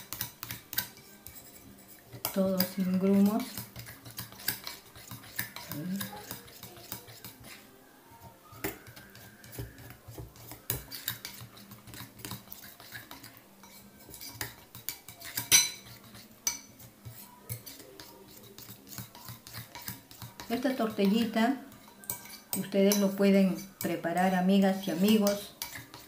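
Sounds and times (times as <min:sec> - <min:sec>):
utensil stirring batter in bowl: 0:00.0 - 0:26.0.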